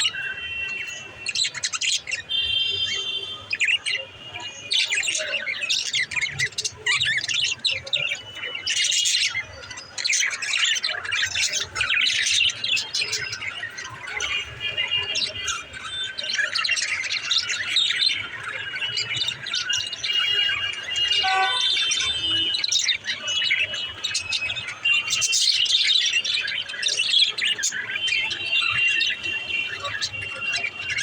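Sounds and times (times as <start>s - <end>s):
budgerigars chattering: 4.7s - 31.0s.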